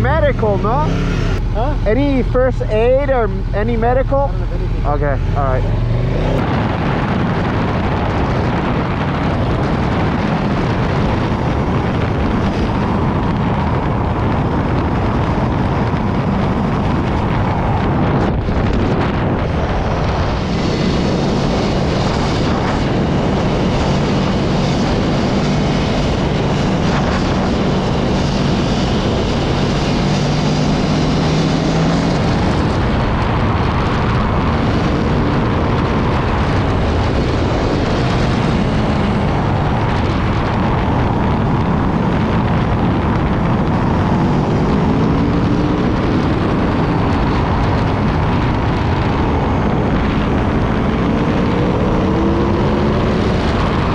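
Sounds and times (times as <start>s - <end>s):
motorcycle engine running: 0.0s - 53.9s
wind rush: 0.0s - 53.9s.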